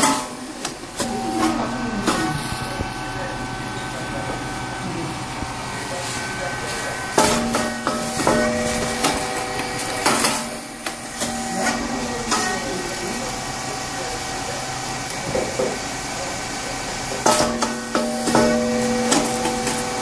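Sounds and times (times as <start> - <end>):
machine humming and hissing: 0.0 - 20.0.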